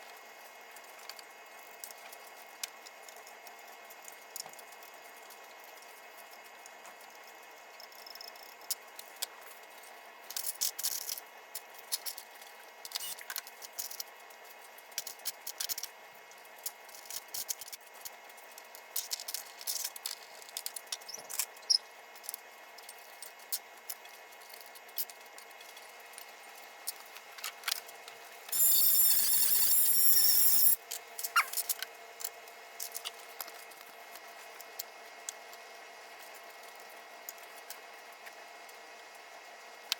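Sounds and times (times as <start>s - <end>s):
small clicks and rattles of parts: 0.0s - 38.8s.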